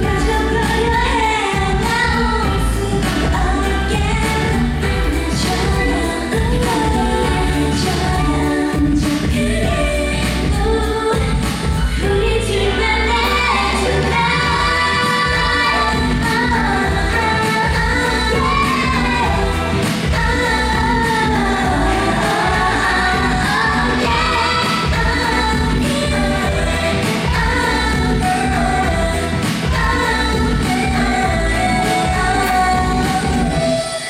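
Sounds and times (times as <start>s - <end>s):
heavy bass beat: 0.0s - 33.8s
dance song with women singing: 0.0s - 34.0s.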